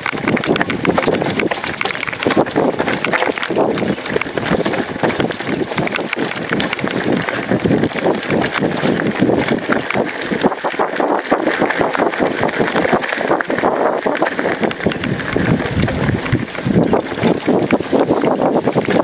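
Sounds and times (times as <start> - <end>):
bike tyres rattling on gravel: 0.0 - 19.0.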